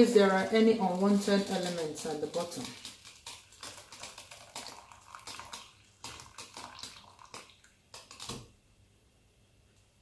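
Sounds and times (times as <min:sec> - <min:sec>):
liquid pouring and splashing: 0:00.3 - 0:08.5.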